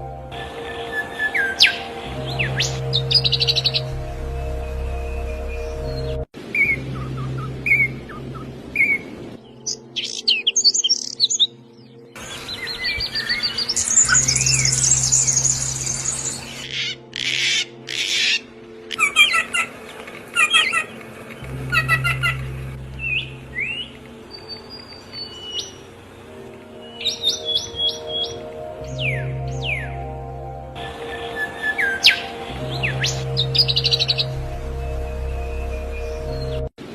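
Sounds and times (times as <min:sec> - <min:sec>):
songbirds chirping and singing: 0:00.0 - 0:36.7
background music: 0:00.0 - 0:36.9.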